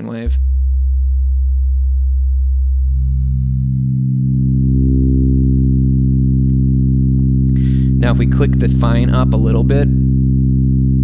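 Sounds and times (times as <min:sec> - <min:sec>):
synthesizer tone with overtones: 0:00.0 - 0:11.0.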